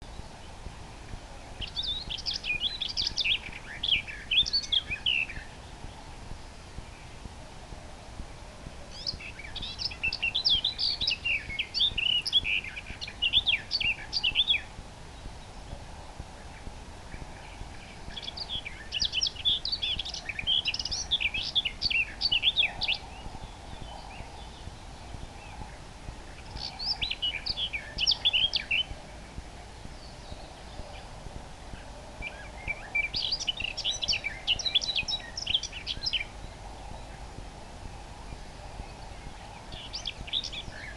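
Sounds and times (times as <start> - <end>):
nightingale singing: 0.0 - 40.9
outdoor background hiss: 0.0 - 40.9.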